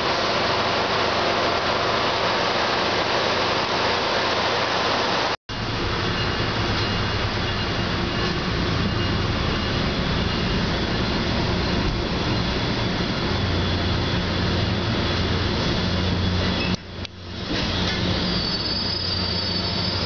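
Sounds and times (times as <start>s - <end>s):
train rumbling inside coach: 0.0s - 20.0s.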